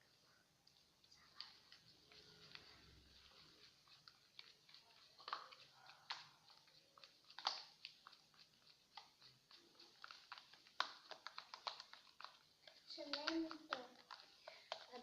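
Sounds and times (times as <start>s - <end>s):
stirrer clicking in wet mixture: 0.6s - 15.0s.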